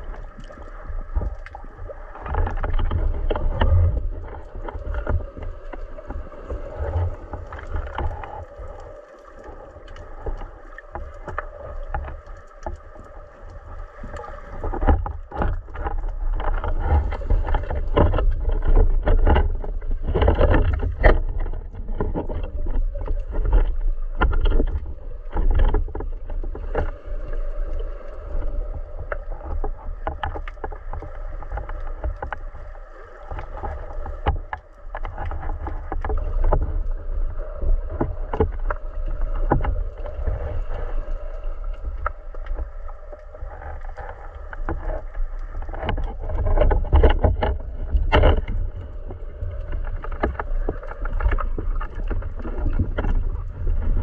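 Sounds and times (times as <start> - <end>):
low underwater rumble: 0.0 - 54.0
small clicks and knocks: 0.0 - 54.0.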